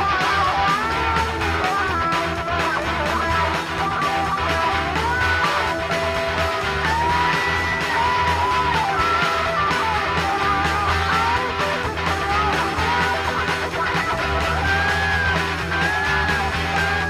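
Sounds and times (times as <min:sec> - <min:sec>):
bass: 0:00.0 - 0:17.0
drums: 0:00.0 - 0:17.0
lead guitar sliding notes: 0:00.0 - 0:17.0.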